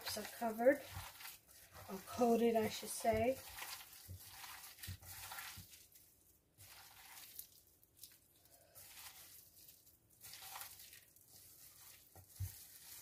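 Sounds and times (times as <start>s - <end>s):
squishing and crinkling in bowl: 0.0s - 13.0s.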